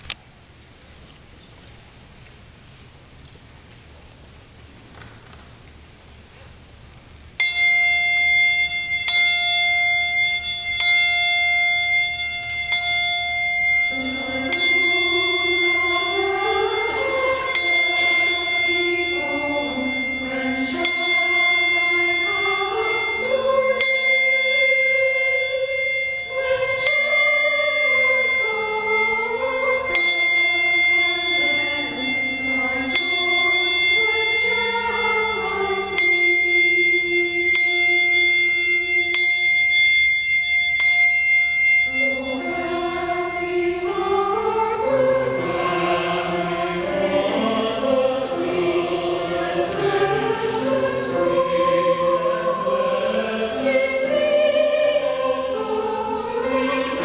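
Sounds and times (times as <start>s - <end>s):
bell-like high chord: 7.4s - 57.0s
church choir singing: 8.0s - 57.0s.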